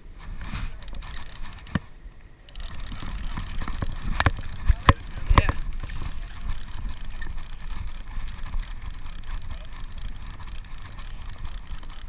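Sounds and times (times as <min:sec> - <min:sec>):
boat engine rumble: 0:00.0 - 0:12.0
faint small ticks: 0:00.7 - 0:01.8, 0:02.5 - 0:12.0.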